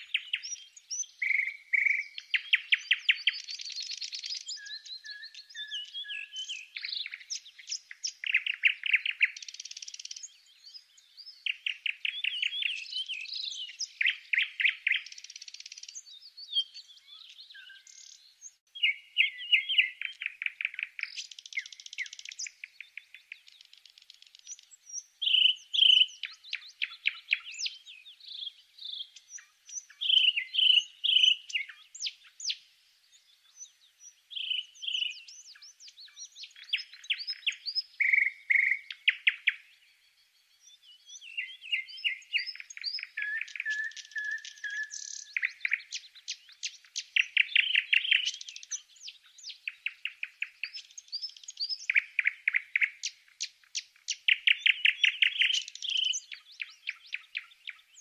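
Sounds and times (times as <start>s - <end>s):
songbird trilling and whistling: 0.0s - 58.0s.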